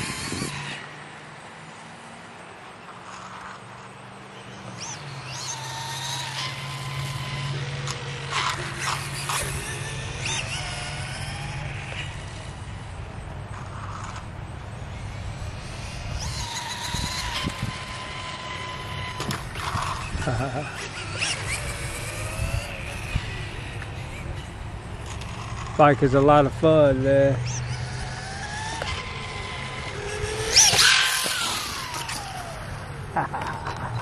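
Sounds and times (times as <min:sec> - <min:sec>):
electric motor whine: 0:00.0 - 0:02.1, 0:02.8 - 0:34.0
steady low hum: 0:02.6 - 0:34.0.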